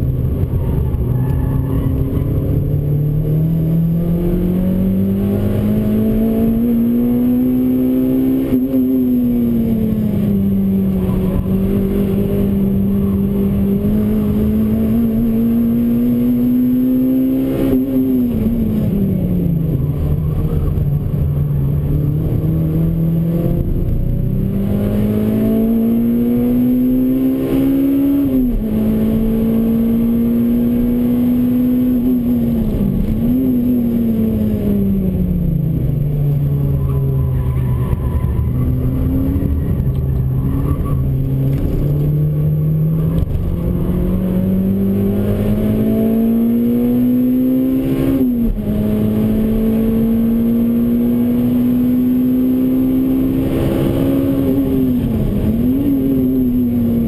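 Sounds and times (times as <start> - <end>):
car engine revving inside cabin: 0.0 - 57.0.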